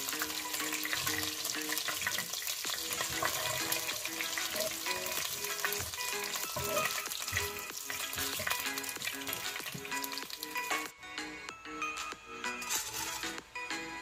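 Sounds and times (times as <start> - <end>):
food sizzling in hot oil: 0.0 - 10.9, 12.6 - 13.4.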